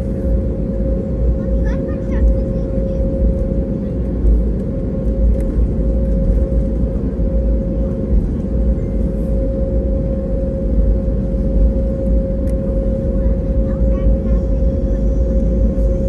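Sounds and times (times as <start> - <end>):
low aircraft cabin rumble: 0.0 - 16.0
mid-pitched hum: 0.0 - 16.0.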